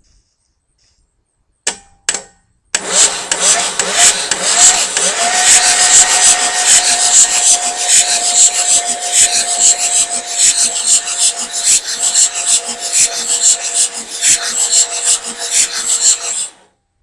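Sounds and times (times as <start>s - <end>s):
starter motor cranking engine: 2.8s - 16.7s.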